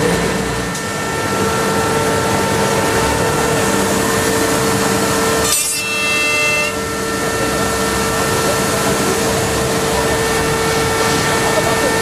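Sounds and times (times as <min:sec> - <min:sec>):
machine whine: 0:00.0 - 0:12.0
machining centre cutting wood: 0:00.0 - 0:12.0.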